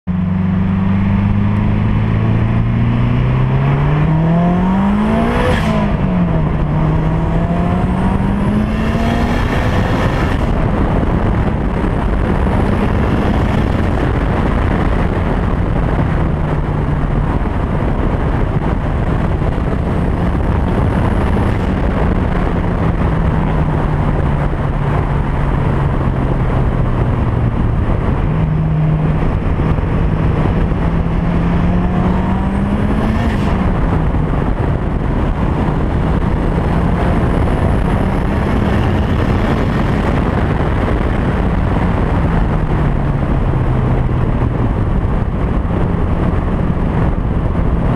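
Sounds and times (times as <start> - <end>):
car engine accelerating: 0.0 - 47.9
wind noise: 0.1 - 47.9.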